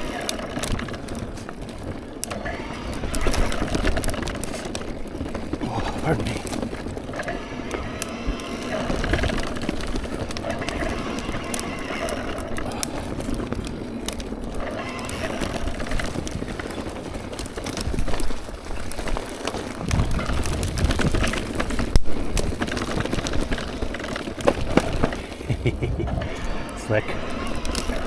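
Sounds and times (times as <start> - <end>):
bike rattling and clattering: 0.0 - 28.0
bike tyres rumbling on rough ground: 0.0 - 28.0.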